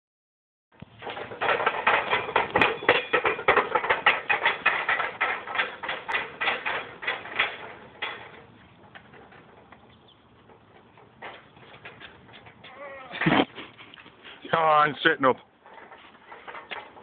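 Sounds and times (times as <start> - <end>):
metal handles rattling and clanking: 0.8 - 13.3, 14.5 - 17.0.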